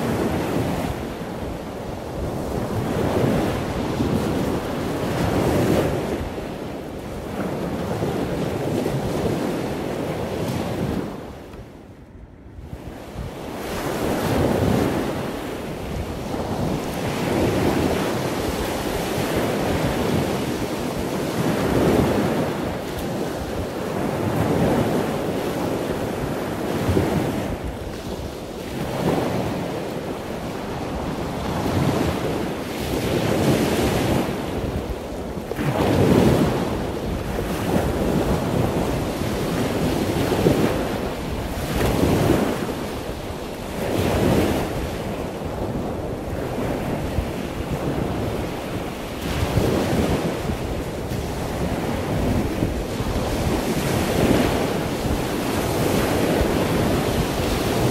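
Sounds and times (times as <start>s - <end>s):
ocean surf: 0.0s - 57.9s
wind buffeting microphone: 0.0s - 57.9s.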